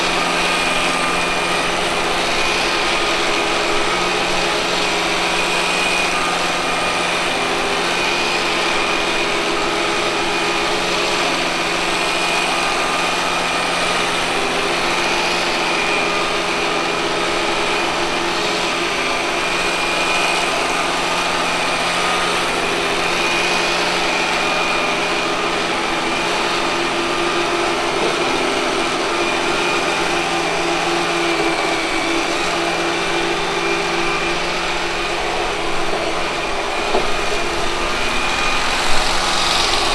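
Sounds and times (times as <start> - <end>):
robot vacuum cleaner whine: 0.0 - 39.9.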